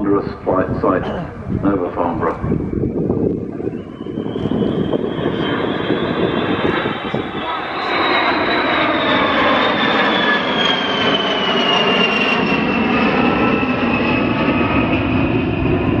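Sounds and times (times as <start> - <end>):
aircraft engines flying past: 0.0 - 16.0.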